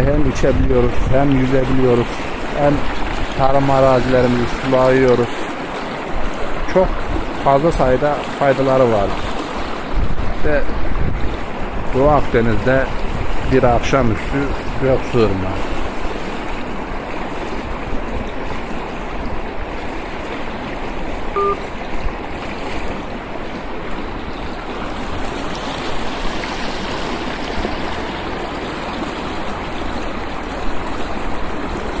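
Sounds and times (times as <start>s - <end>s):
river rushing over stones: 0.0s - 32.0s.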